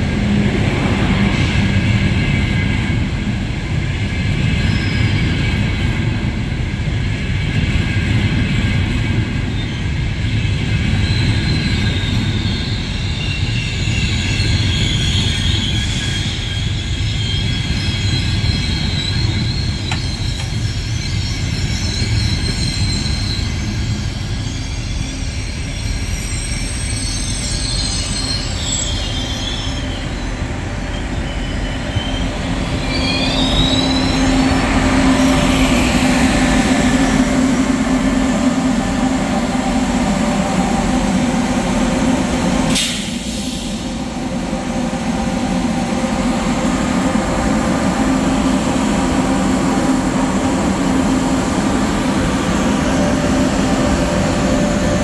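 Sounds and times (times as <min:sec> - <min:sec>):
train wheels rumbling on rails: 0:00.0 - 0:55.0
high-pitched wheel squeals: 0:10.7 - 0:55.0.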